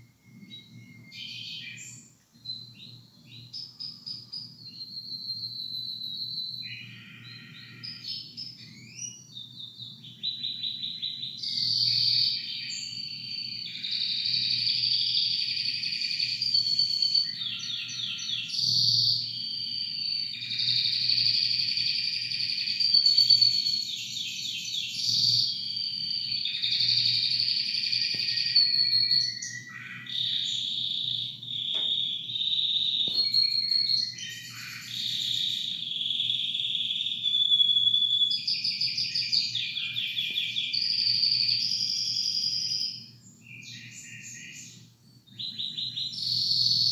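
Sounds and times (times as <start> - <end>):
canary singing trills and chirps: 0.4 - 46.9.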